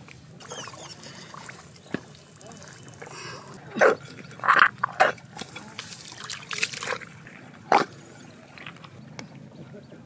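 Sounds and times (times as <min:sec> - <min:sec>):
wet mud squelching: 0:00.4 - 0:09.0.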